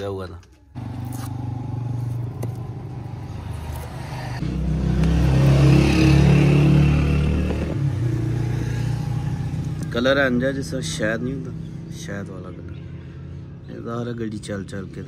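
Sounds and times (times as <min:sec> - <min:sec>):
vehicle engine droning: 0:00.8 - 0:13.7.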